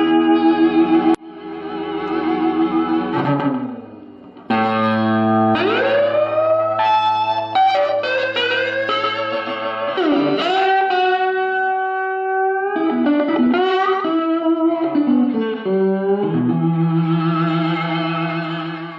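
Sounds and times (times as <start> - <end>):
guitar playing held notes: 0.0 - 18.9.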